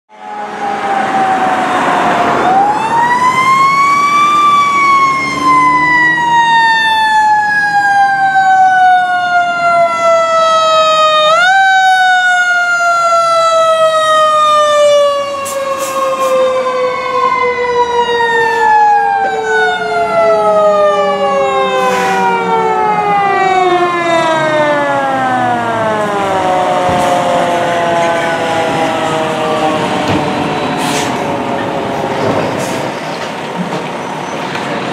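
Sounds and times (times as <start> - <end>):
second siren falling tone: 0.1 - 31.9.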